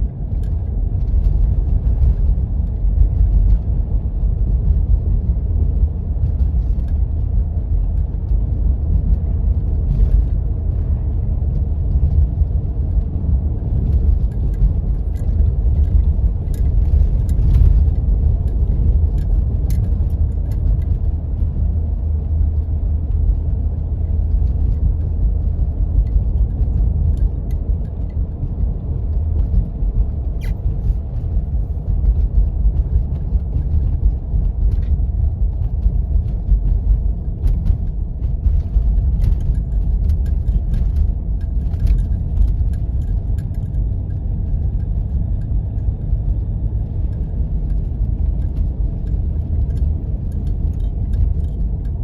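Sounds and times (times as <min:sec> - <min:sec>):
car driving rumble from inside: 0:00.0 - 0:52.0
light ticks and rattles: 0:00.0 - 0:52.0.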